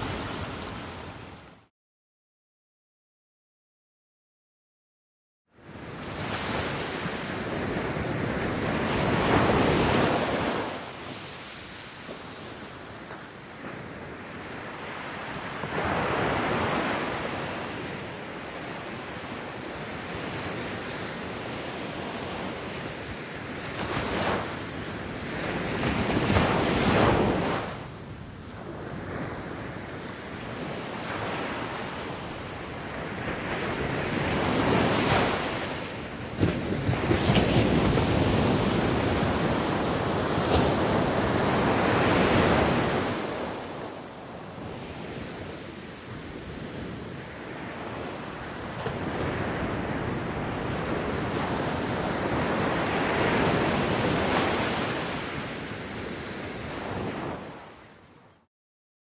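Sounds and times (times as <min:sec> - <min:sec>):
ocean waves breaking on beach: 0:00.0 - 0:01.7, 0:05.6 - 0:58.5.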